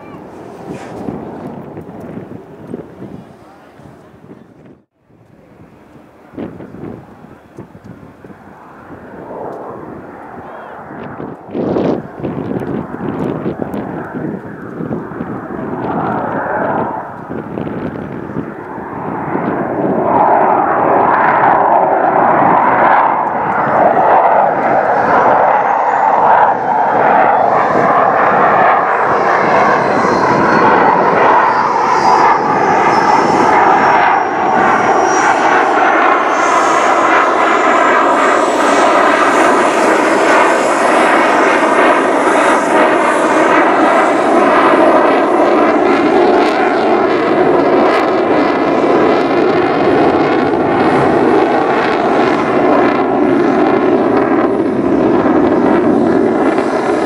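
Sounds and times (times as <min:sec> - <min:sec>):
loud jet noise overhead: 0:00.0 - 0:57.0.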